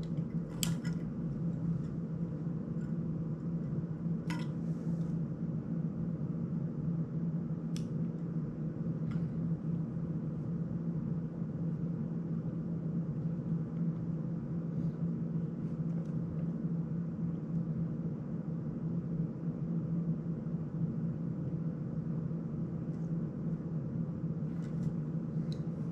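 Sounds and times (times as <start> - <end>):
low mechanical hum: 0.0 - 25.9.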